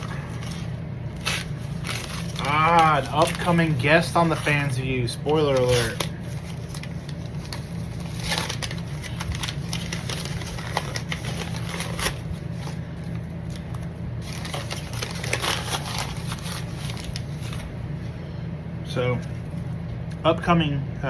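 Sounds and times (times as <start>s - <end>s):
packaging crinkling and rustling: 0.0s - 18.0s
steady low hum: 0.0s - 21.0s.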